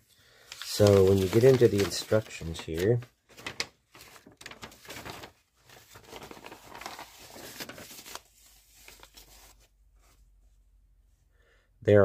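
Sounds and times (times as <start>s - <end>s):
paper pages rustling: 0.4s - 10.2s.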